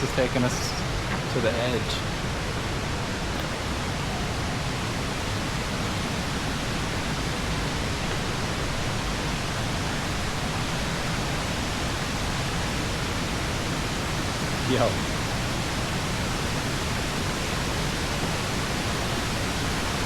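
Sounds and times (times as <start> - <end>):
large waterfall roaring: 0.0 - 20.0.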